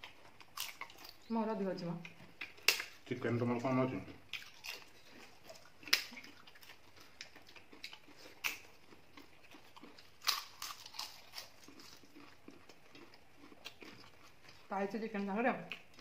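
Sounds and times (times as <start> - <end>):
people chewing and biting: 0.0 - 1.3, 2.0 - 14.7, 15.6 - 16.0.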